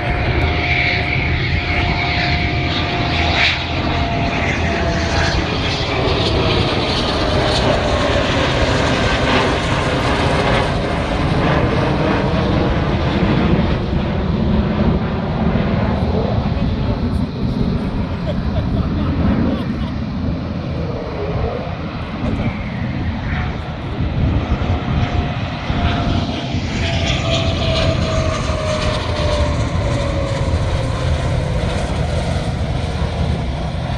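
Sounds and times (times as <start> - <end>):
aircraft engines roaring: 0.0 - 33.9
steady whine: 0.0 - 33.9.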